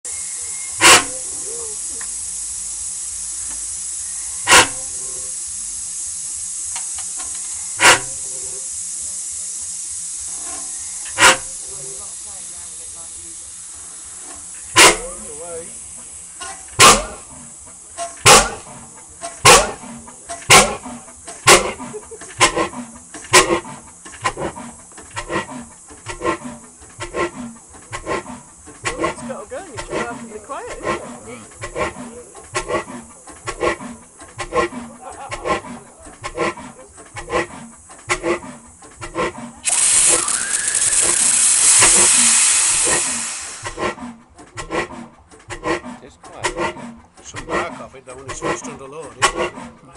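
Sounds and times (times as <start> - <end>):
loud hiss: 0.0 - 39.0, 39.6 - 43.8
oil engine exhaust beats: 0.0 - 49.9.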